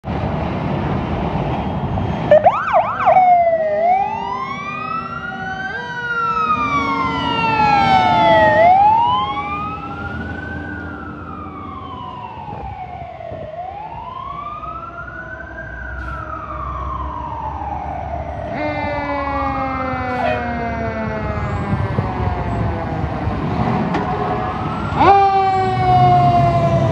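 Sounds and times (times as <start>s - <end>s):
diesel engine rumble: 0.0s - 26.9s
fire truck siren: 0.1s - 26.9s.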